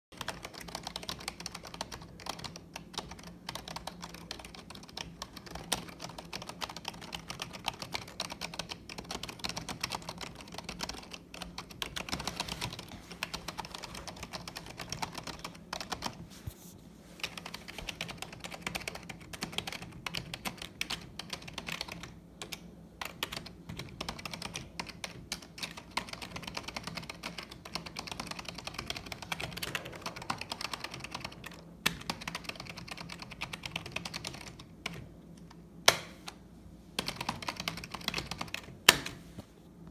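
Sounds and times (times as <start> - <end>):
fast keyboard typing: 0.1 - 16.2, 17.2 - 36.1, 37.0 - 39.2.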